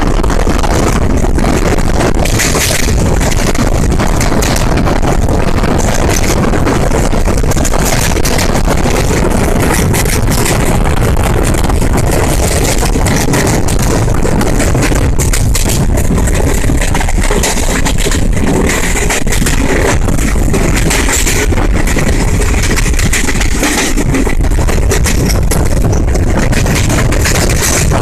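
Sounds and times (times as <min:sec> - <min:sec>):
rattling and clatter: 0:00.0 - 0:28.0
rush of air: 0:00.0 - 0:28.0
train rumbling at speed: 0:00.0 - 0:28.0.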